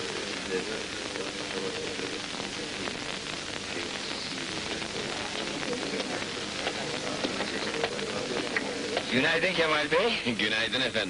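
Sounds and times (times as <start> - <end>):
film soundtrack hiss and crackles: 0.0 - 11.0.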